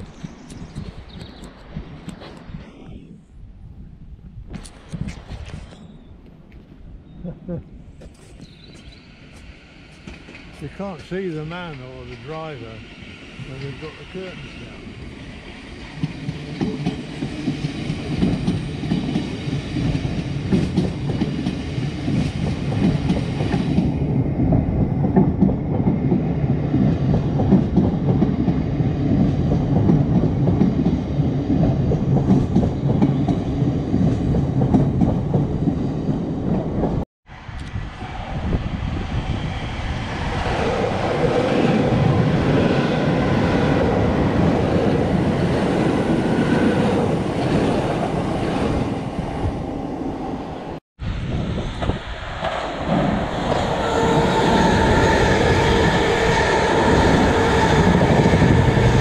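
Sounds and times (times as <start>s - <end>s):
train wheels rumbling on track: 8.0s - 59.0s.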